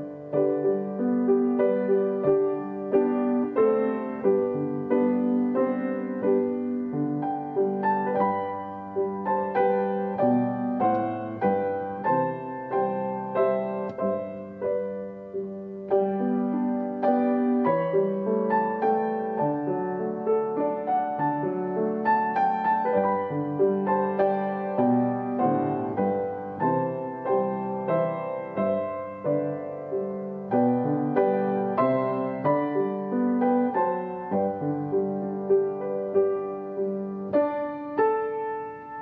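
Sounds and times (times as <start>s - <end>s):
solo piano piece: 0.0s - 39.0s.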